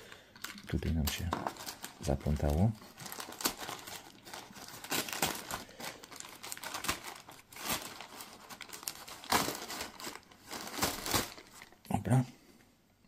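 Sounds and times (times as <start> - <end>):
packaging crinkling and rustling: 0.0 - 11.9.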